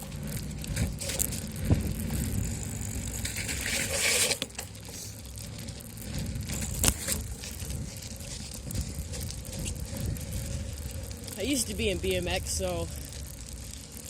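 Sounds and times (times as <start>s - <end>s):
wind buffeting microphone: 0.0s - 3.6s, 5.5s - 13.8s
bicycle ride rumble: 0.0s - 14.0s
hissing crunch: 0.0s - 14.0s.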